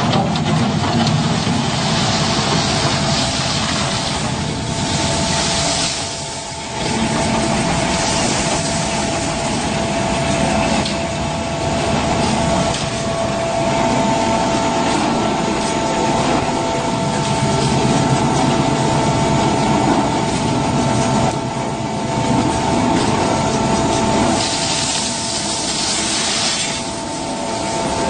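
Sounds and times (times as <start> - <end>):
engine drone: 0.0 - 28.0.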